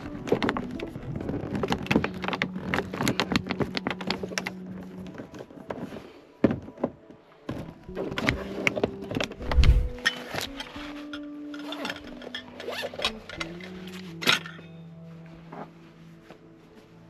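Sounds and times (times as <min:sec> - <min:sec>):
cable and plastic bottles rattling: 0:00.0 - 0:09.4, 0:10.0 - 0:14.6.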